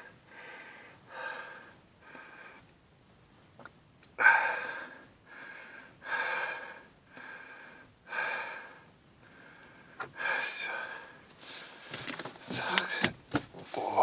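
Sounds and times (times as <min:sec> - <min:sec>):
person breathing hard: 0:00.0 - 0:02.7, 0:04.2 - 0:13.2.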